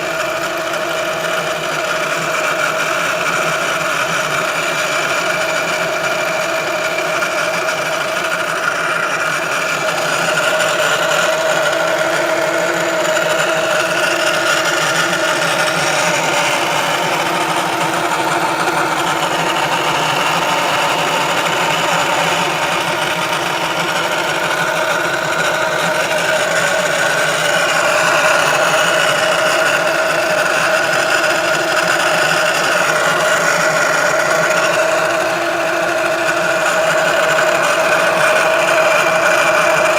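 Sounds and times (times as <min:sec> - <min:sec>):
car whining noise: 0:00.0 - 0:39.9
mechanical running sound: 0:00.0 - 0:39.9.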